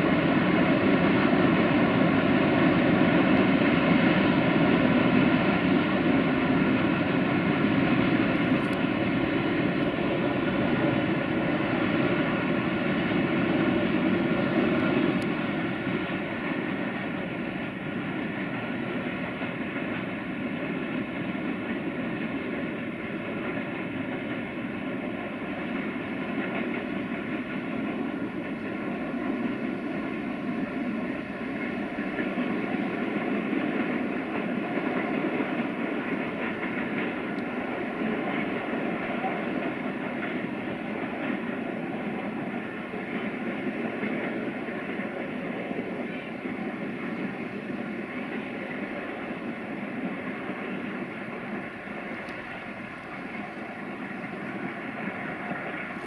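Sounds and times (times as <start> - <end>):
distant freight train rumbling: 0.0 - 56.0
locomotive hum: 0.0 - 56.0.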